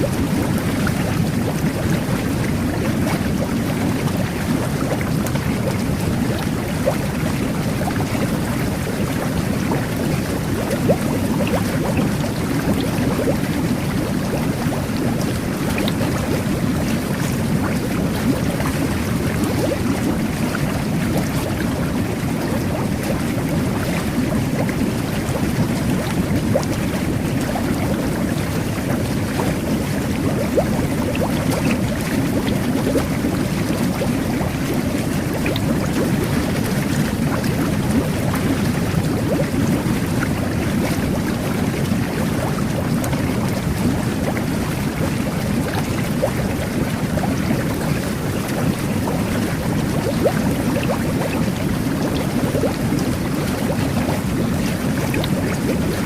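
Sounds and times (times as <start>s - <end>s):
whirlpool tub water bubbling: 0.0s - 56.0s.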